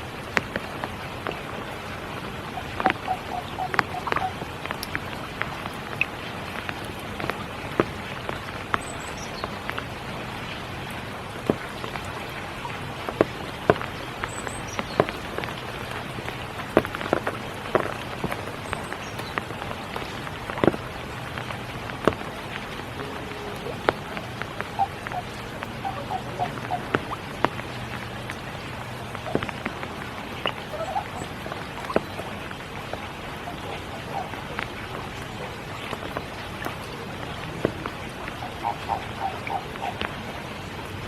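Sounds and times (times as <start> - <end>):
large raindrops striking: 0.0 - 41.0
rain hissing: 0.0 - 41.0.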